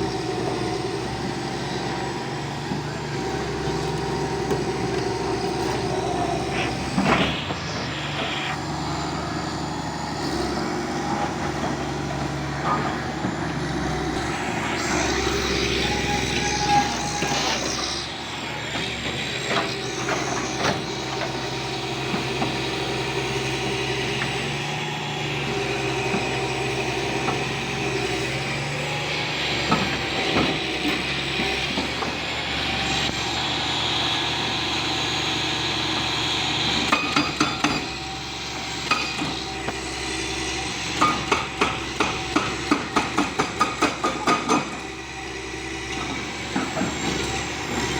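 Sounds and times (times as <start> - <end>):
demolition machine engine running: 0.0 - 47.9.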